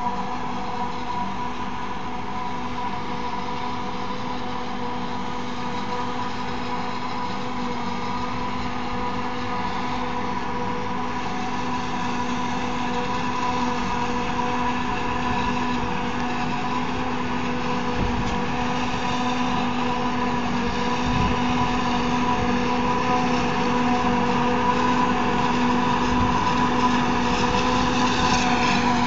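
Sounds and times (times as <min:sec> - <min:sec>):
tractor engine running: 0:00.0 - 0:29.0
whine of cutterhead and blower: 0:00.0 - 0:29.0
forage harvester chopping maize: 0:02.4 - 0:29.0.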